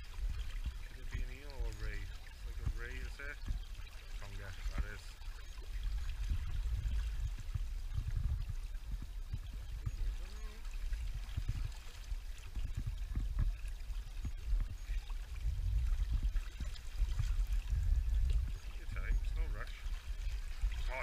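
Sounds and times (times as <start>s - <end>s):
low rumble: 0.0s - 21.0s
water washing at shoreline: 0.0s - 21.0s.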